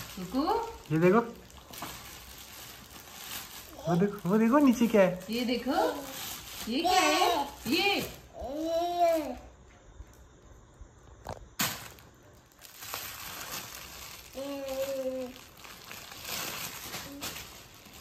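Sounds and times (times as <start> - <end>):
plastic wrapping crinkling: 0.0 - 9.4, 11.2 - 18.0.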